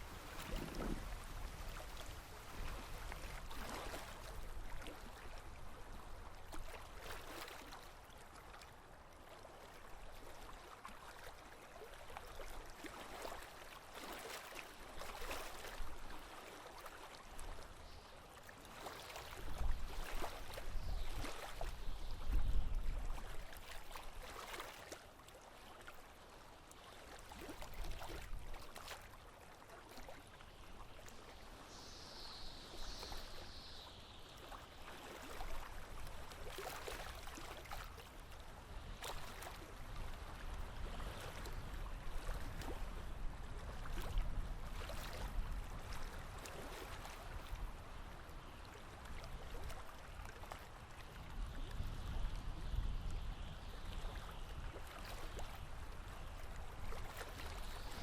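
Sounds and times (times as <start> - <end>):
waves lapping against hull: 0.0 - 58.0.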